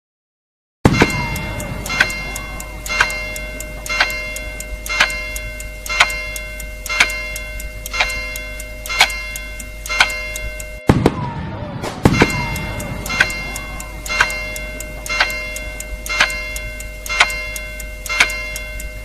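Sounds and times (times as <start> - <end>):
clock chime striking: 0.9 - 10.9, 12.1 - 19.0.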